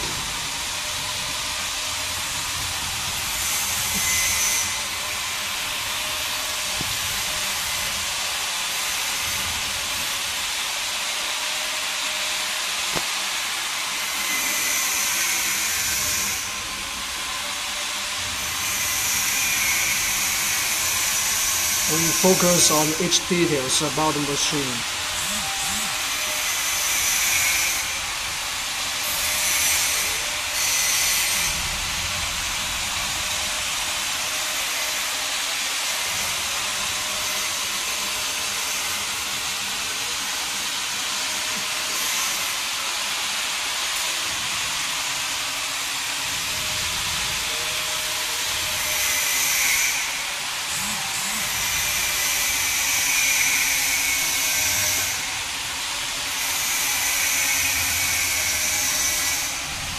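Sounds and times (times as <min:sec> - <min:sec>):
factory machinery hiss: 0:00.0 - 0:59.9.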